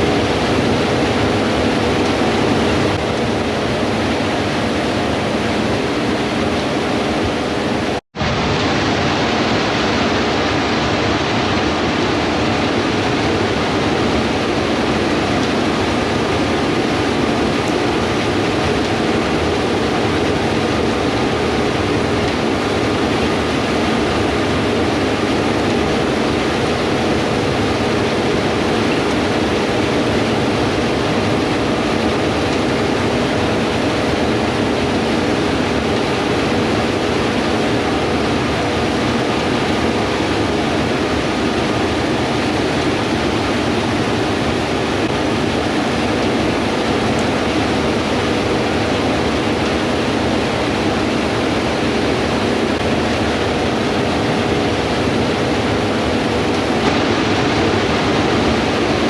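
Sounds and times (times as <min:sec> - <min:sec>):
combine harvester machinery drone: 0:00.0 - 0:59.0.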